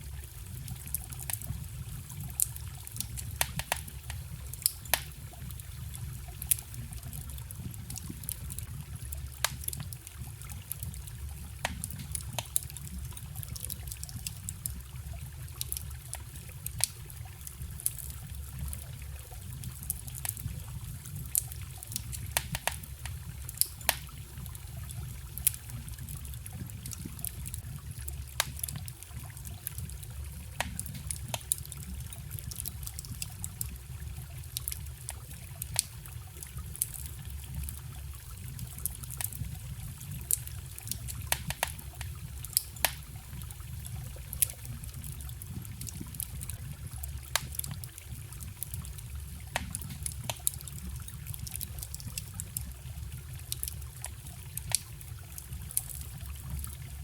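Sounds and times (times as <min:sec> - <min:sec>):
campfire crackling: 0:00.0 - 0:57.0
forest stream trickling: 0:00.0 - 0:57.0.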